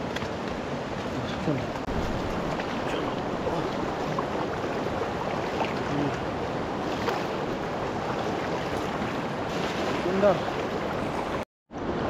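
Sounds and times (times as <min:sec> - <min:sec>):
fast-flowing river rushing: 0:00.0 - 0:12.0.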